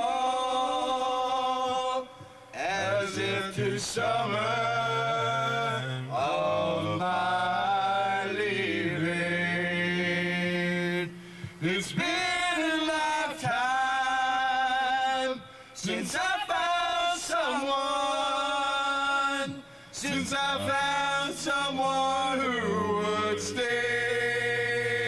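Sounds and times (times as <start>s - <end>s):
men singing a cappella: 0.0s - 25.0s.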